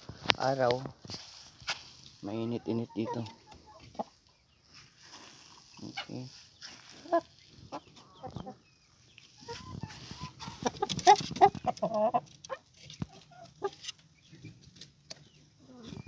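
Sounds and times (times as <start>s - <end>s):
hens clucking: 1.6s - 16.0s.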